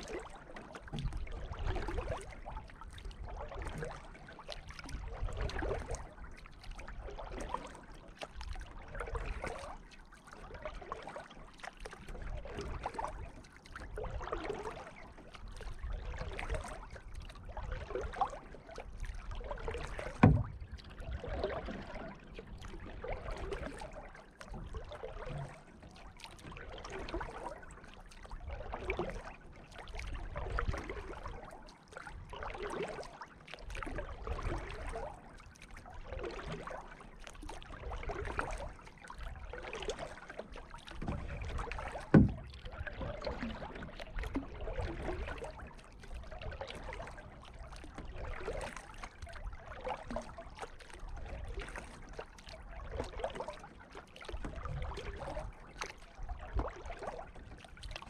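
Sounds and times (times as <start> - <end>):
paddle water swishing and dripping: 0.0 - 58.0.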